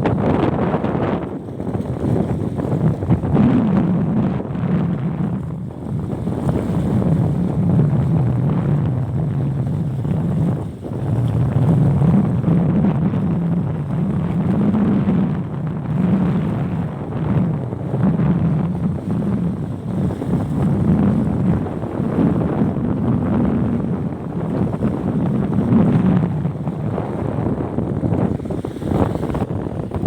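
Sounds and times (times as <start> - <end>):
boat motor running: 0.0 - 30.0
wind buffeting microphone: 0.0 - 30.0.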